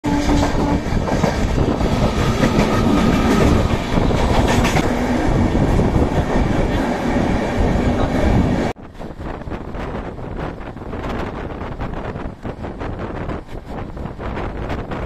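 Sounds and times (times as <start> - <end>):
train wheels rushing on track: 0.0 - 15.0
clickety-clack over rail joints: 0.1 - 6.9, 7.5 - 15.0.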